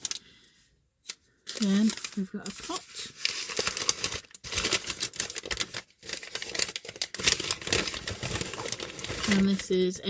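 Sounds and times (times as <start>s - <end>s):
packaging crinkling: 0.0s - 0.3s, 1.1s - 10.0s.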